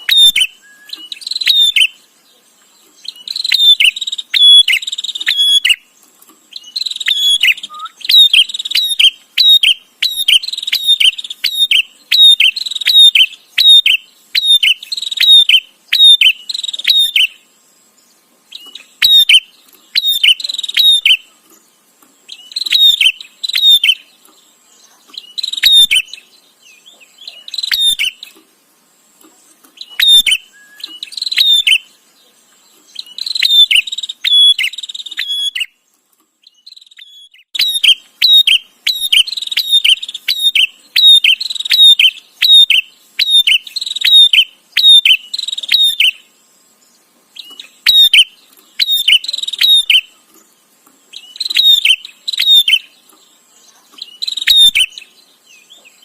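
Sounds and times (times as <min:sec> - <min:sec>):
bird chattering calls: 0:00.0 - 0:02.0, 0:03.0 - 0:05.9, 0:06.5 - 0:17.4, 0:18.5 - 0:21.4, 0:22.3 - 0:24.2, 0:24.8 - 0:28.4, 0:29.7 - 0:32.0, 0:32.9 - 0:35.7, 0:36.6 - 0:46.2, 0:47.4 - 0:50.2, 0:51.1 - 0:53.1, 0:53.7 - 0:56.0.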